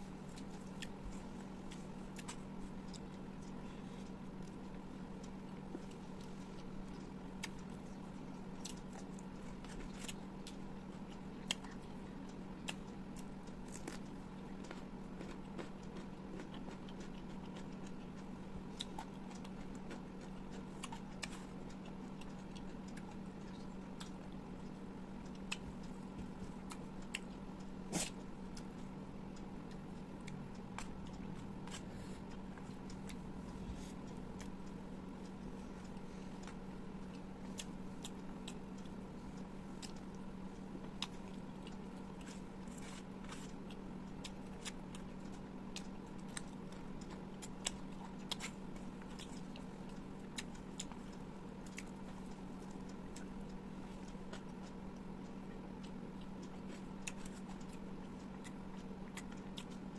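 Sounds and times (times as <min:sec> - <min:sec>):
steady low hum: 0:00.0 - 0:59.9
chewing with wet mouth clicks: 0:00.2 - 0:59.9.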